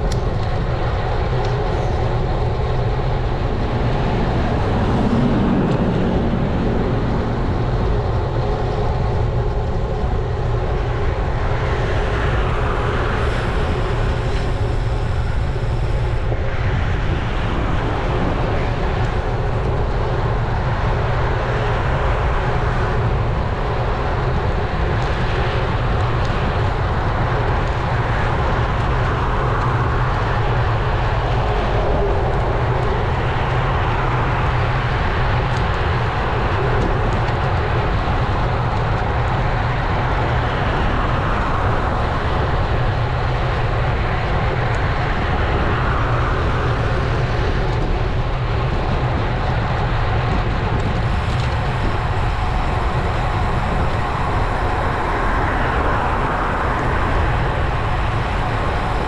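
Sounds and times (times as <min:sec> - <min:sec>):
road noise rumble: 0:00.0 - 0:59.0
wind buffeting microphone: 0:00.0 - 0:59.0.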